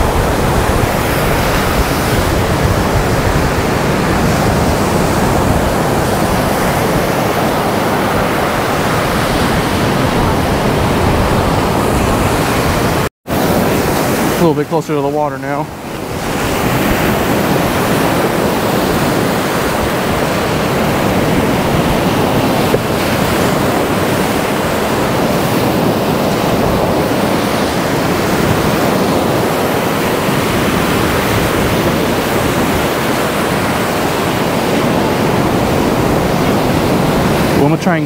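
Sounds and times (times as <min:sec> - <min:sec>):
surf breaking on sand: 0:00.0 - 0:38.0
wind buffeting microphone: 0:00.0 - 0:38.0.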